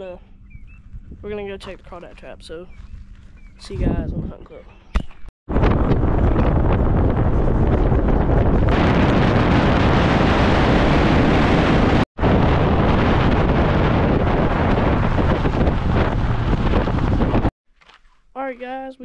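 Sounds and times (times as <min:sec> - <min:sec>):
wind buffeting microphone: 0:00.0 - 0:17.5.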